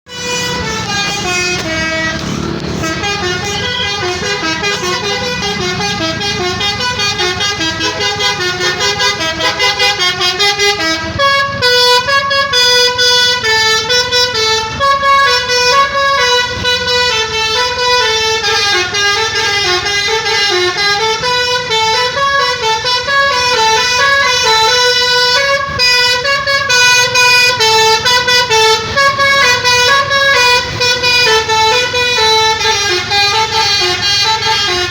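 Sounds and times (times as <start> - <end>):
musical bus horn melody: 0.1 - 34.9.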